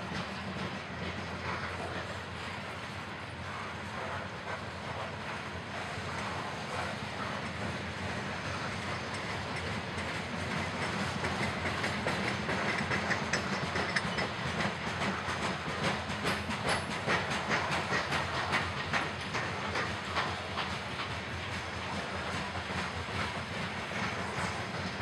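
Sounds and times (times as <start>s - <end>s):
freight train wheels rumbling: 0.0s - 25.0s
rhythmic clicking of train wheels: 0.0s - 25.0s.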